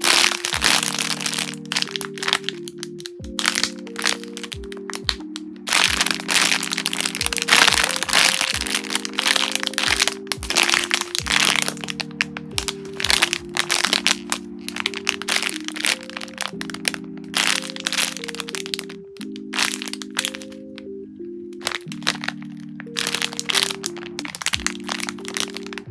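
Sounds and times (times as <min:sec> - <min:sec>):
plastic bags crinkling: 0:00.0 - 0:20.8, 0:21.6 - 0:25.9
soft background music: 0:00.0 - 0:25.9.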